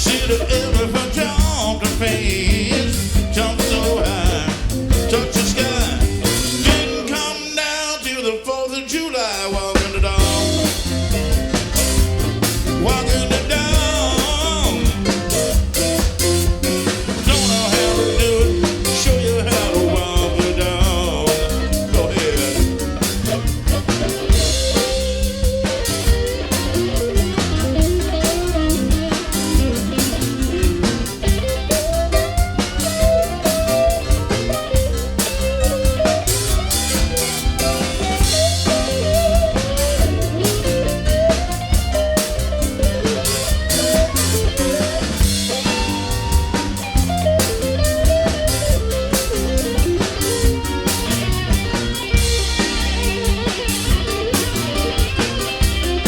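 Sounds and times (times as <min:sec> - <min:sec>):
bass: 0:00.0 - 0:07.4, 0:09.7 - 0:56.0
drums: 0:00.0 - 0:56.0
electric guitar solo: 0:10.2 - 0:56.0.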